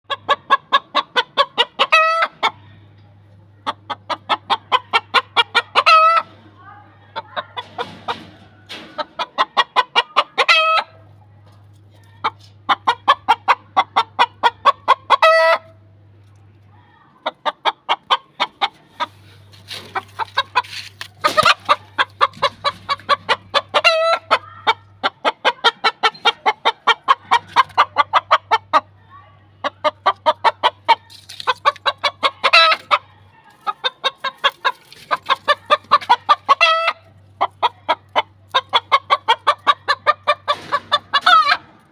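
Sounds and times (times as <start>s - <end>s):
rooster clucking rapidly: 0.1s - 2.7s, 3.6s - 6.4s, 7.0s - 11.1s, 12.1s - 15.8s, 17.2s - 29.0s, 29.6s - 41.9s.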